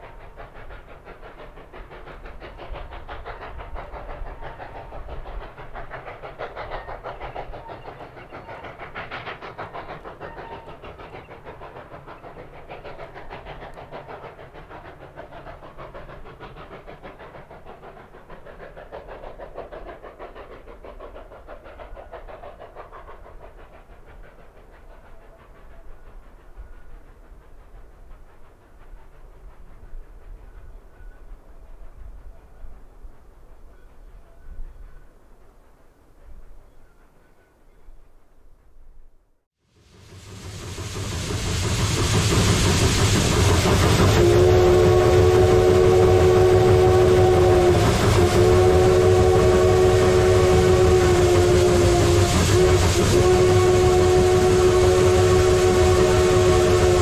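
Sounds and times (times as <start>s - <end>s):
steam locomotive chuffing: 0.0s - 37.4s, 39.6s - 57.0s.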